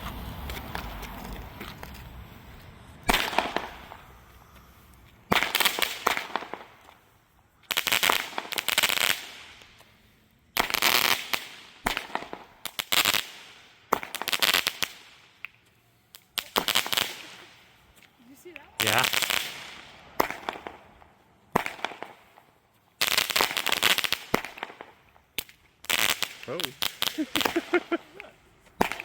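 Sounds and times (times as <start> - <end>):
fireworks bangs with crackle: 0.0 - 4.6, 5.2 - 7.1, 7.7 - 9.8, 10.5 - 17.9, 18.5 - 29.0.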